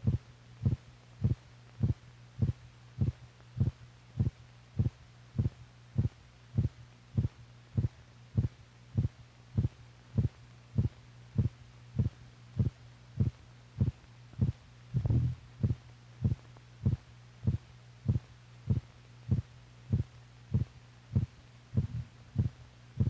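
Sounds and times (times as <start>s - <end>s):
heartbeat thumps: 0.0s - 23.0s
steady low hum: 0.0s - 23.0s.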